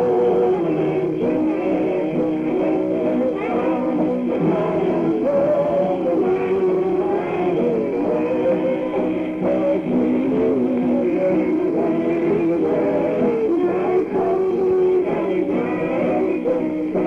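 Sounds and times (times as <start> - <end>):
choir singing a gospel song: 0.0 - 17.0.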